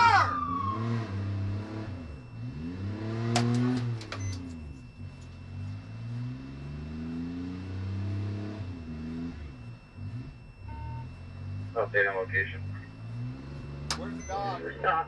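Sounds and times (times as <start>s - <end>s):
truck engine revving hard: 0.0s - 4.0s, 5.7s - 15.0s.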